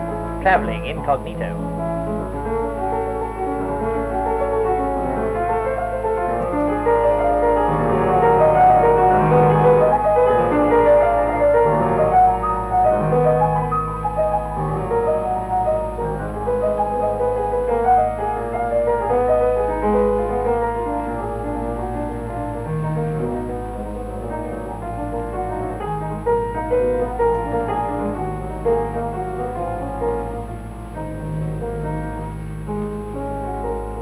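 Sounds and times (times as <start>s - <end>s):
piano film music: 0.0s - 34.0s.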